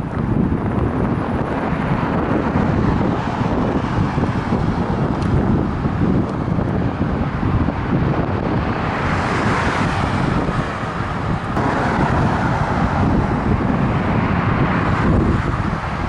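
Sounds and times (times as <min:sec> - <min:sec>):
road traffic passing: 0:00.0 - 0:16.0
wind rushing over microphone: 0:00.0 - 0:16.0.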